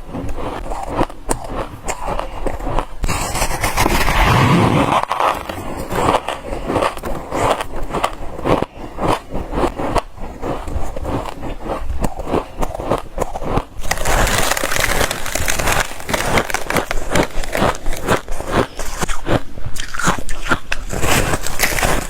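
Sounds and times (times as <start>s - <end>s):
freezer frost crunching: 0.0s - 22.0s.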